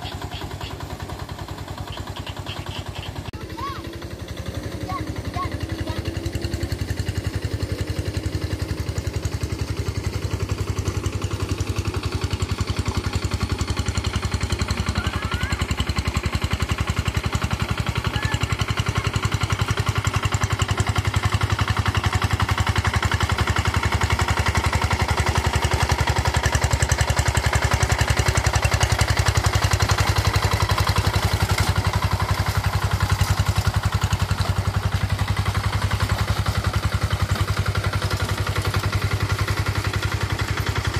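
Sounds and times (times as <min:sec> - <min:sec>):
tractor engine chugging: 0:00.0 - 0:40.9.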